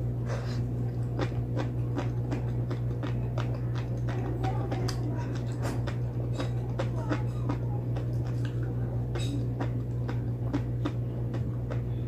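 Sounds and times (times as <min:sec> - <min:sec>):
steady low hum: 0:00.0 - 0:12.0
person chewing with wet mouth clicks: 0:00.3 - 0:12.0.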